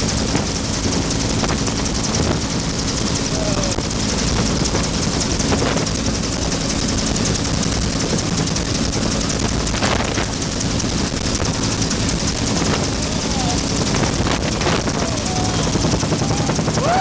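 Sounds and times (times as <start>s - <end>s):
helicopter engine and rotor noise: 0.0s - 17.0s.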